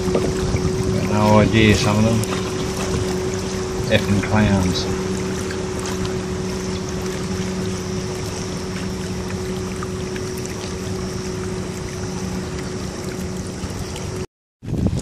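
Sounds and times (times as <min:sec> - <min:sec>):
small motor humming: 0:00.0 - 0:14.2
water lapping at hull: 0:00.0 - 0:15.0.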